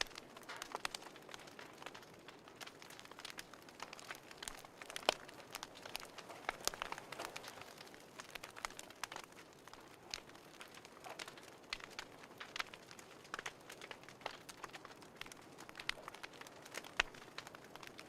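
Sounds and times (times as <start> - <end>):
fire popping and snapping: 0.0 - 18.0.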